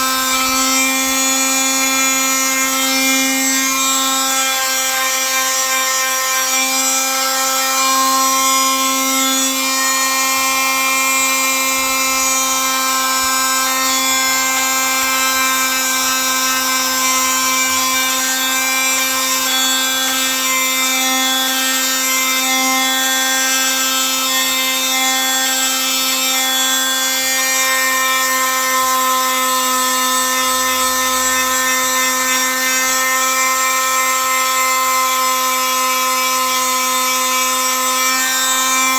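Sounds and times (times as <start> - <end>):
electric power tool whining: 0.0 - 38.9.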